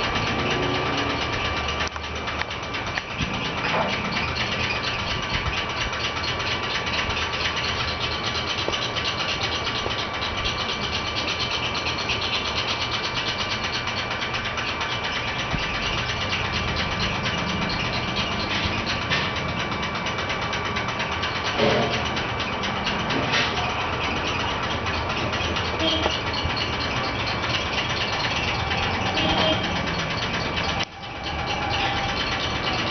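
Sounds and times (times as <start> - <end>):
motor humming and whirring: 0.0 - 32.9.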